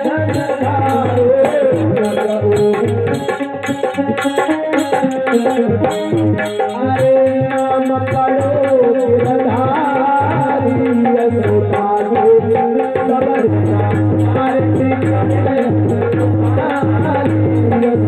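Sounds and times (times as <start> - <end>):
tabla rhythm: 0.0 - 18.0.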